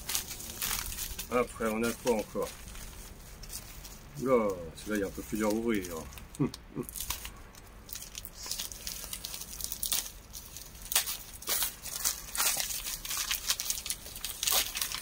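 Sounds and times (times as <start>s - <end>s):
plastic packaging crinkling and tearing: 0.0s - 15.0s.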